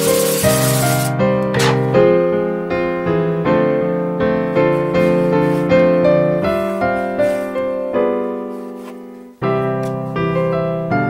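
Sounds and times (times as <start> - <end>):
piano melody: 0.0 - 11.0.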